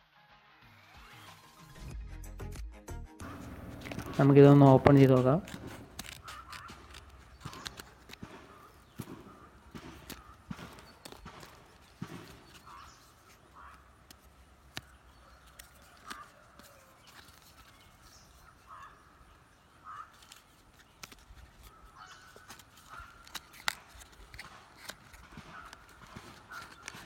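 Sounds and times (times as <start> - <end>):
packaging clicks: 3.2 - 18.8, 19.9 - 27.0
paper rustling: 3.2 - 19.0, 19.9 - 27.0.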